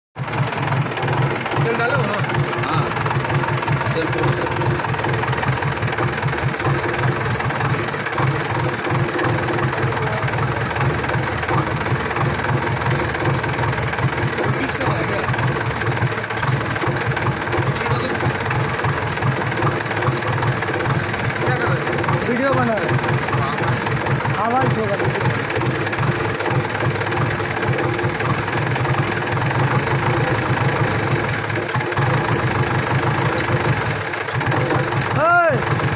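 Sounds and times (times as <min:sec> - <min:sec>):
diesel engine idling: 0:00.2 - 0:35.9.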